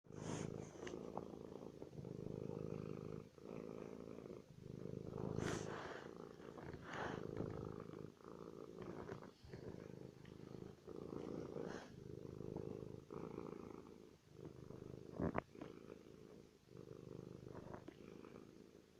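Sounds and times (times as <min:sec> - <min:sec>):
cat purring: 0:00.0 - 0:18.9.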